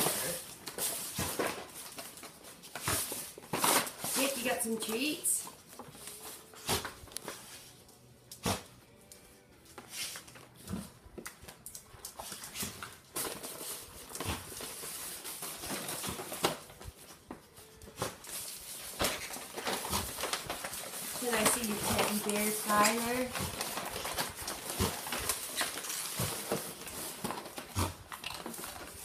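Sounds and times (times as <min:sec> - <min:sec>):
dogs rummaging through toys: 0:00.0 - 0:29.0.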